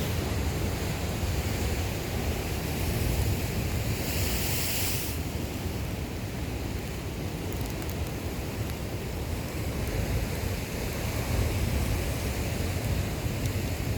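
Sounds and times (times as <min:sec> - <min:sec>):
ocean surf breaking over rocks: 0:00.0 - 0:13.9.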